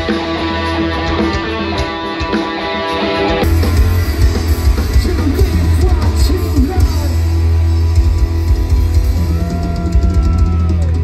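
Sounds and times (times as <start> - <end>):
bass guitar: 0.0 - 11.0
drum kit: 0.0 - 11.0
electric guitars: 0.0 - 11.0.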